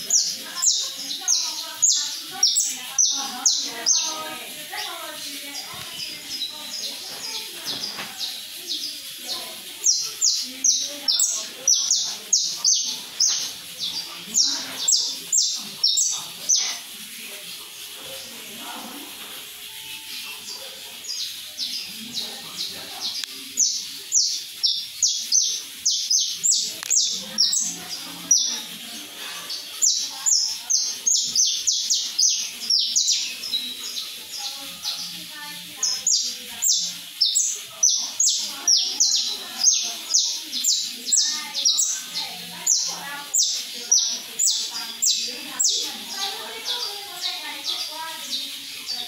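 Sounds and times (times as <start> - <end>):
finch singing high chirps: 0.0 - 18.4, 19.0 - 49.0.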